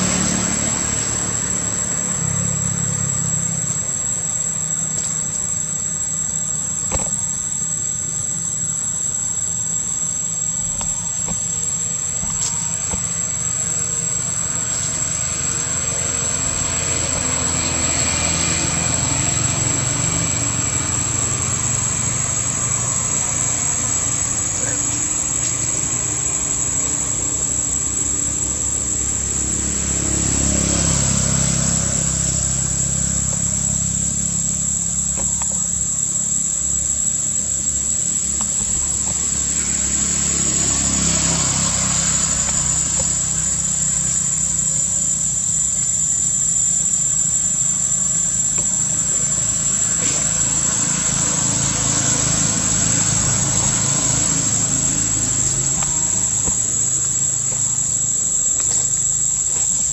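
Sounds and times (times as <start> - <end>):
high-pitched insect drone: 0.0 - 59.9
low traffic rumble: 0.0 - 59.9.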